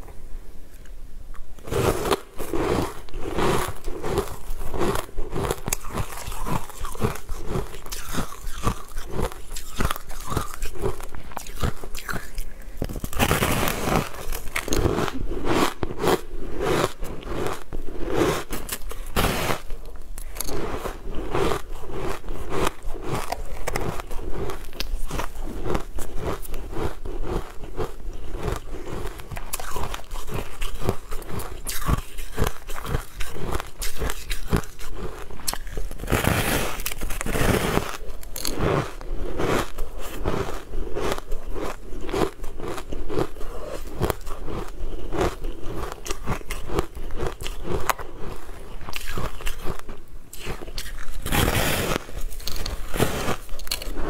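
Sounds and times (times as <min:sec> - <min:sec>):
crunchy food chewing: 0:00.7 - 0:54.0.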